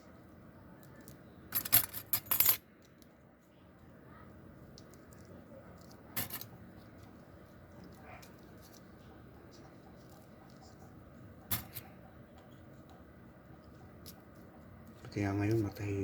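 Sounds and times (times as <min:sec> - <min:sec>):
low room noise: 0:00.0 - 0:16.0
faint scratching and ticking: 0:02.8 - 0:16.0.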